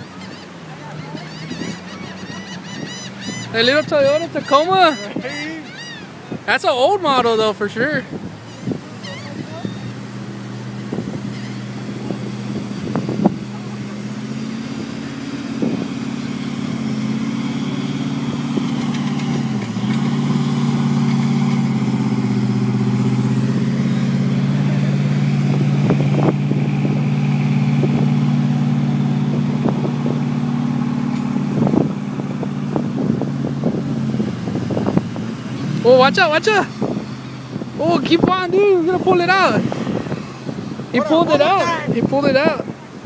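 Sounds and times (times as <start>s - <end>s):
pickup truck engine revving: 0.0s - 43.0s.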